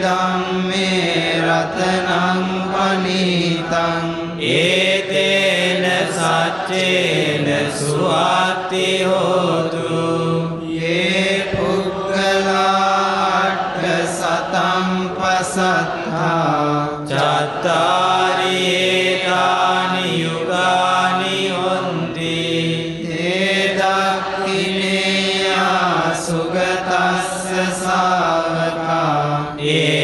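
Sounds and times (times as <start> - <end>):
voices chanting: 0.0 - 30.0.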